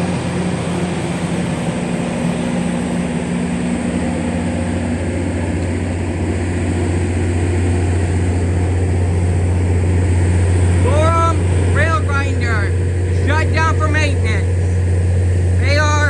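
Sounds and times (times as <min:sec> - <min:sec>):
heavy engine idling: 0:00.0 - 0:16.0.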